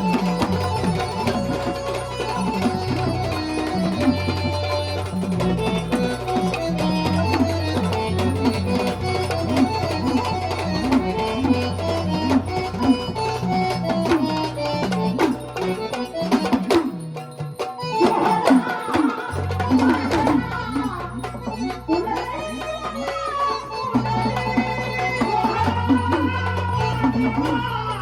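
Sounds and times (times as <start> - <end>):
melody instrument: 0.0 - 27.2
hand drum rhythm: 0.0 - 28.0.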